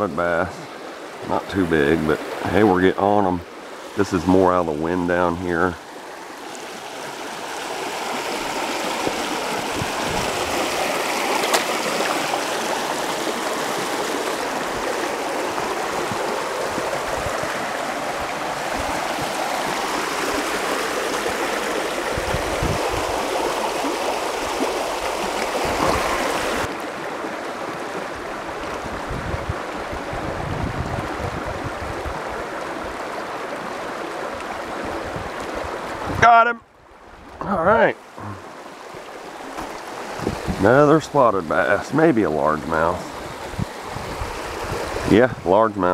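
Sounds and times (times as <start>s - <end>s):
creek water rushing: 0.0s - 45.9s.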